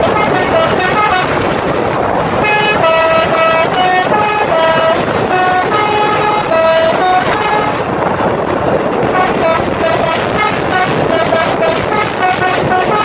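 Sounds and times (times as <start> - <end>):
bus horn playing a melody: 0.0 - 13.0
passing traffic: 0.0 - 13.0.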